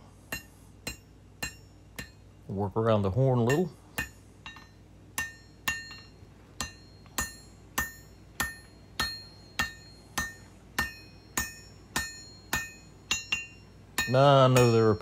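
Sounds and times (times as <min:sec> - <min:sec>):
high metallic anvil ring: 0:00.0 - 0:02.3, 0:03.4 - 0:15.0
hammer striking steel on anvil: 0:00.0 - 0:02.4, 0:03.3 - 0:15.0.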